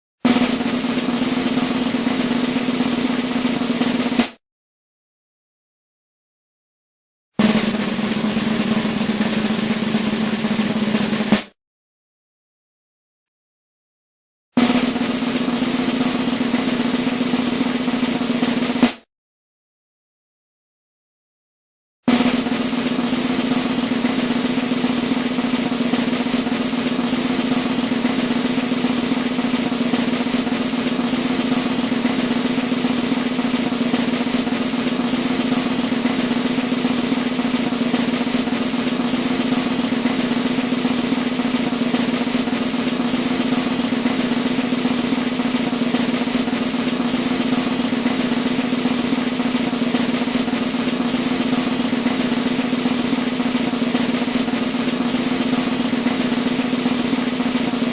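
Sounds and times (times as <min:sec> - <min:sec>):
snare drum roll: 0:00.2 - 0:04.4, 0:07.4 - 0:11.6, 0:14.6 - 0:19.1, 0:22.1 - 0:57.9.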